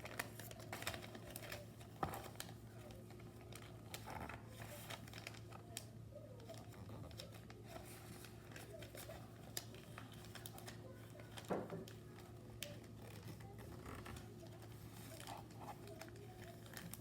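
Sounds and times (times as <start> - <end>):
paper folding and crinkling: 0.0 - 17.0.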